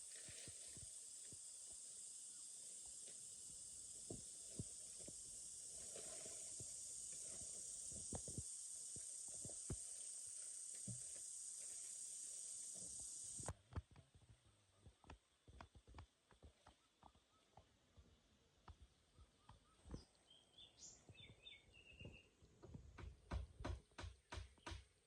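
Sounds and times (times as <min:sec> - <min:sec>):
high-pitched outdoor hiss: 0:00.0 - 0:25.0.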